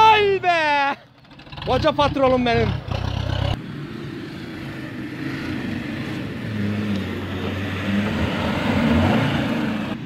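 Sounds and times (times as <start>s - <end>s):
off-road vehicle engine: 0.0s - 10.0s.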